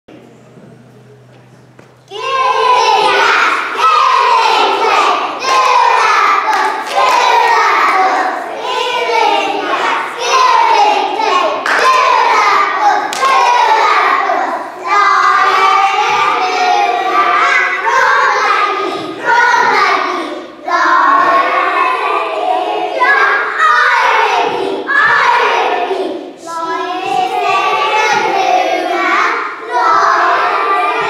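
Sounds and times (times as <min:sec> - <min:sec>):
children singing: 0:02.1 - 0:31.0.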